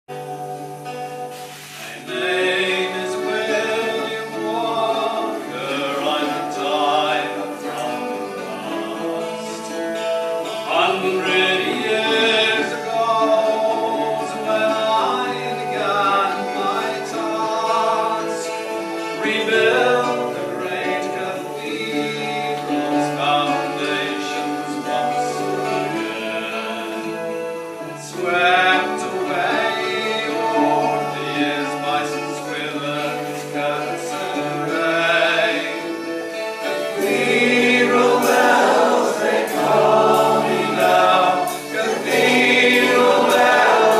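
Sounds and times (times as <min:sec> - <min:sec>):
voices singing together: 0:00.1 - 0:43.9.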